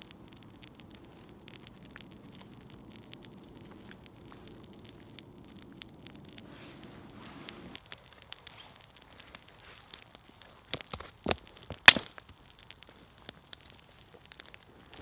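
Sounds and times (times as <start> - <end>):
campfire crackling: 0.0 - 15.0
twigs snapping in fire: 0.0 - 15.0.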